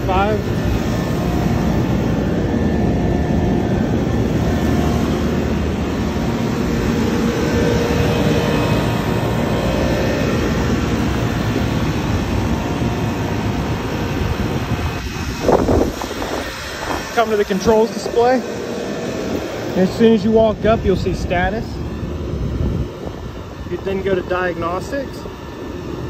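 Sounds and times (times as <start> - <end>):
rooftop hvac fans droning: 0.0 - 26.0.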